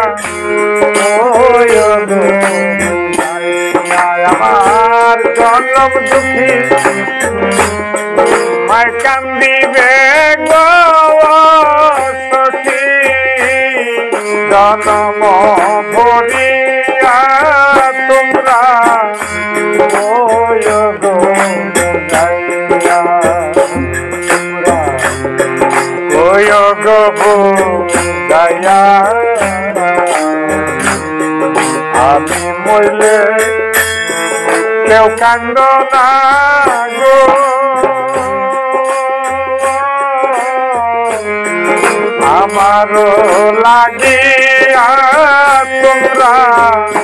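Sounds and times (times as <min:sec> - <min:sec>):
hand drum strokes: 0:00.0 - 0:47.0
jingling percussion: 0:00.0 - 0:47.0
melodic lead instrument tune: 0:00.0 - 0:47.0.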